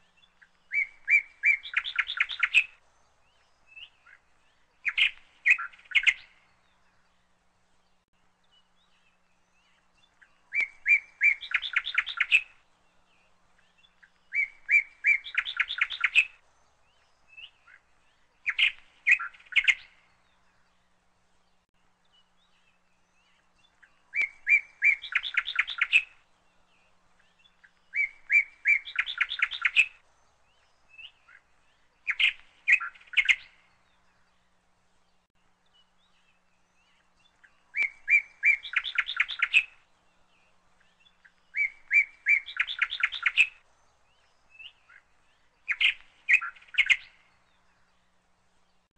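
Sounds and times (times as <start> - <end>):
songbird singing with trill: 0.0 - 48.9.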